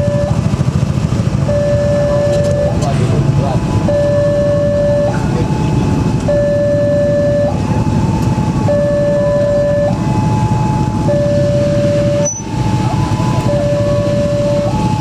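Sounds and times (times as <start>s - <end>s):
two-tone crossing alarm: 0.0s - 0.6s, 1.4s - 2.9s, 3.8s - 5.4s, 6.2s - 15.0s
low traffic rumble: 0.0s - 15.0s.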